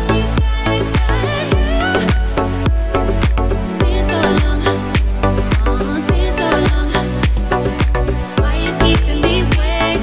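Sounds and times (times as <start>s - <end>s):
background music with bass beat: 0.0s - 10.0s.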